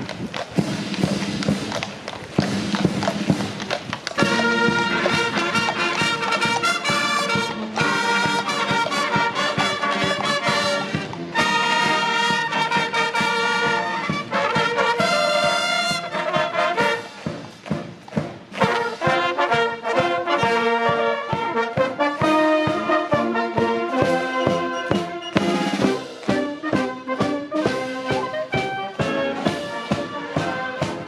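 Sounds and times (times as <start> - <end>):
bugles playing brass music: 0.0 - 31.0
drum beats: 0.0 - 31.0.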